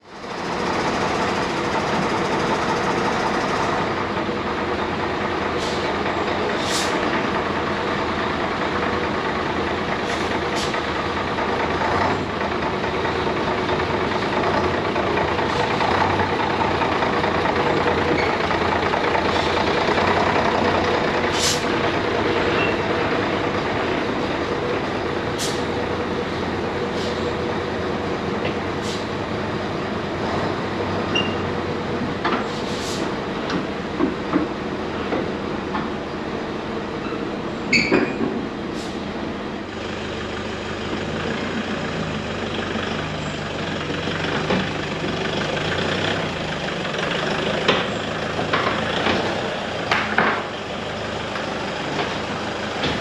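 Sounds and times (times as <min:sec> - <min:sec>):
vehicle running noise: 0:00.0 - 0:53.0.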